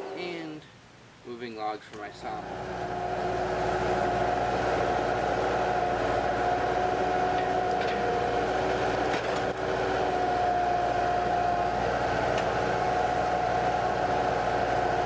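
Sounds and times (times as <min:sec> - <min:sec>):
constant whine: 0:01.8 - 0:15.0
skid steer engine running: 0:02.3 - 0:15.0.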